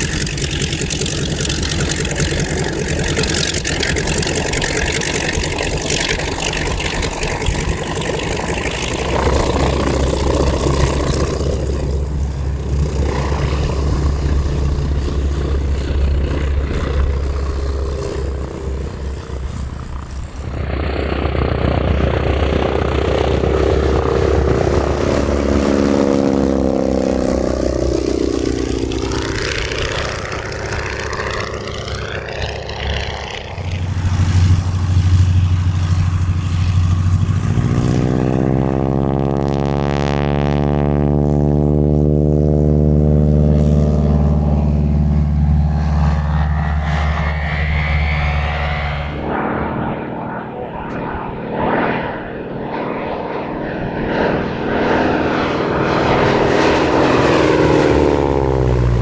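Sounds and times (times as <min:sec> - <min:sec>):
propeller plane engine passing: 0:00.0 - 0:59.0.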